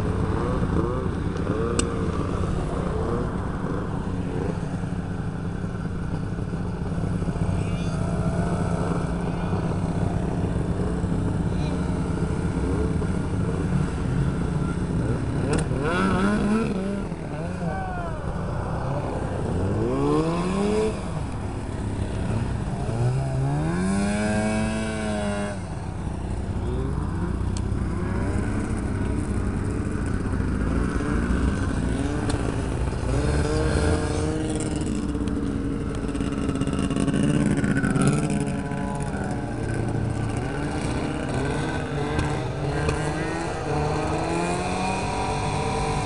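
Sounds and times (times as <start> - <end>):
snowmobile engines revving and idling: 0.0 - 46.0.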